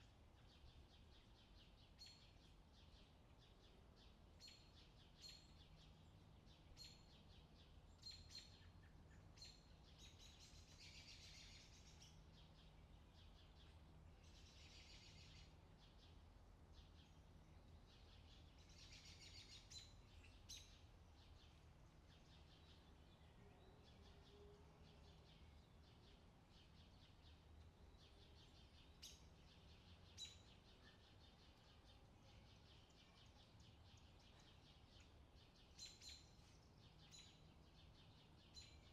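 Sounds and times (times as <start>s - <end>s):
low steady hum: 0.0s - 38.9s
birds chirping and trilling: 4.4s - 38.9s.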